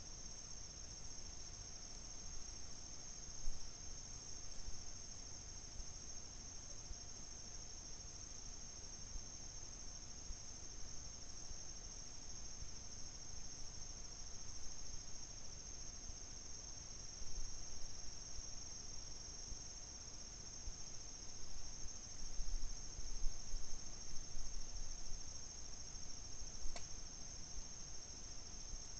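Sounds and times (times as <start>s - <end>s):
night insects chorus: 0.0s - 28.9s.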